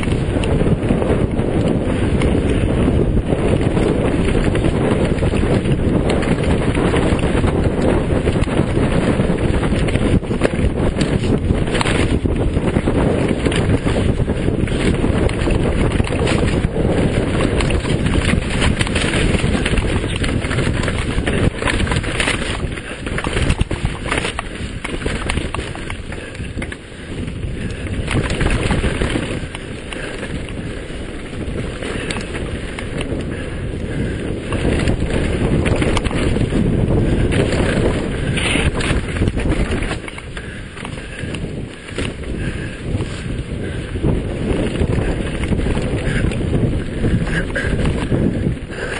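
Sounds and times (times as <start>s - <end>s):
bike rattling over rocks: 0.0s - 48.9s
low rumble of bike: 0.0s - 48.9s
wind buffeting microphone: 0.0s - 48.9s.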